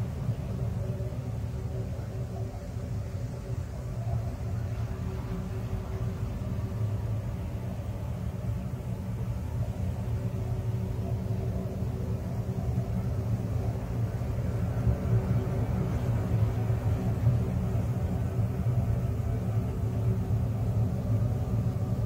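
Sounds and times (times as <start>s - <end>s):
low rumbling ambient drone: 0.0s - 22.0s.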